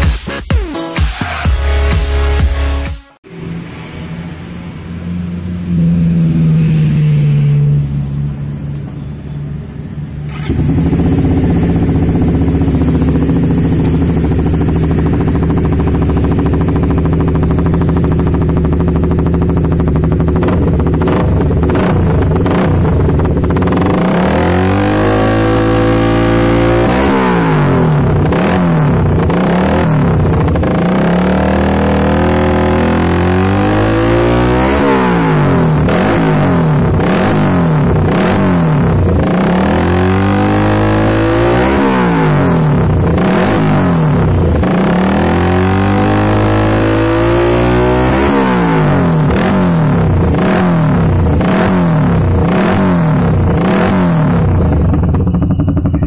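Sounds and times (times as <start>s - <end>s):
motorcycle engine idling and revving: 2.6s - 56.0s.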